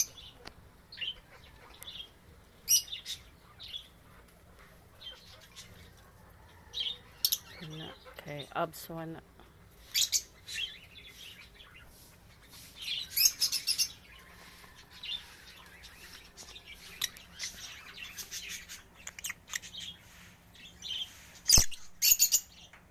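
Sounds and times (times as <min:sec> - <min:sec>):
lovebirds chirping shrilly: 0:00.0 - 0:04.0, 0:06.7 - 0:08.6, 0:09.7 - 0:22.7.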